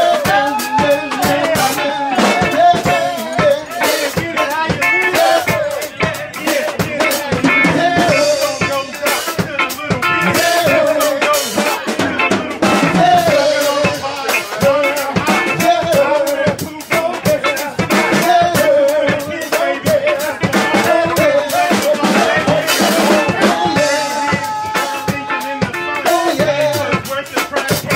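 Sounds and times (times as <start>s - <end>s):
drum kit played hard: 0.0s - 27.9s
guitar: 0.0s - 27.9s
voices over microphones: 0.0s - 27.9s.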